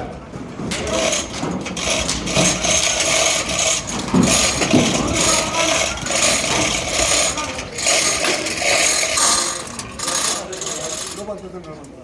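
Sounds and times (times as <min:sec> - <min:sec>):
pig hooves clattering and scraping: 0:00.4 - 0:11.3.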